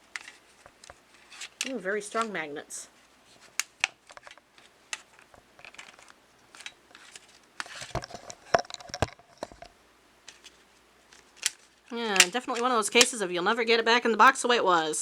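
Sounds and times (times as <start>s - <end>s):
magnetic metal pieces clicking: 0.0s - 2.5s, 3.5s - 13.2s.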